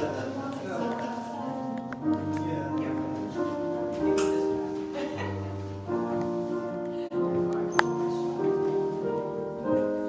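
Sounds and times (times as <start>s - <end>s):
slow keyboard chords: 0.0s - 10.0s.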